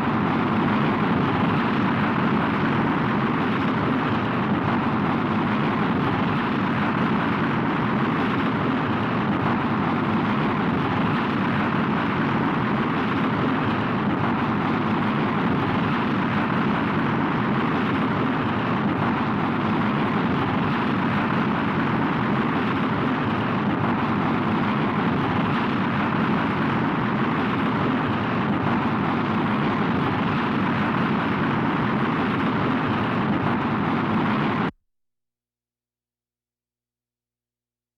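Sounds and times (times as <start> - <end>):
rocket engine rumble: 0.0 - 34.7.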